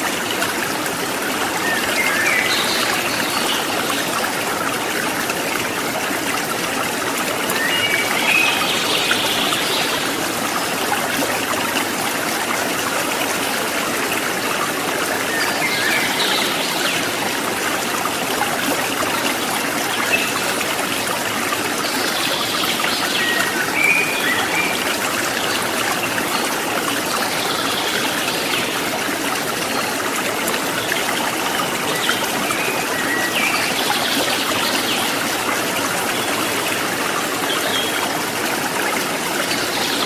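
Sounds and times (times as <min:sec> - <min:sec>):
stream babbling: 0:00.0 - 0:40.0.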